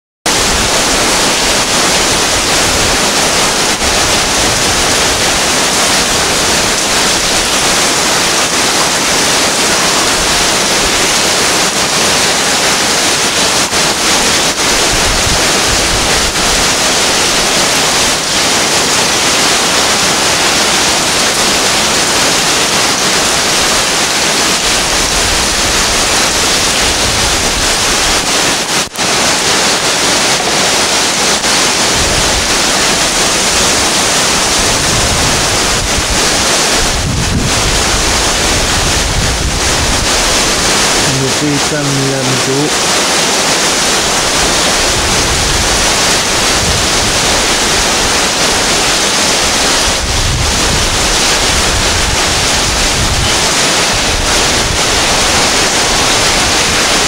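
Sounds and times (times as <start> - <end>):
heavy rain pouring: 0.2 - 57.0.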